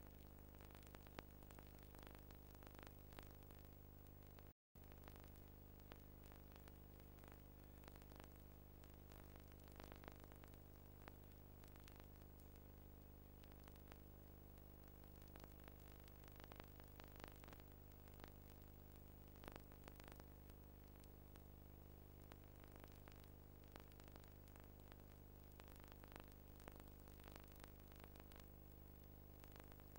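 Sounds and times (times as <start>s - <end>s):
faint electrical hum: 0.0s - 29.9s.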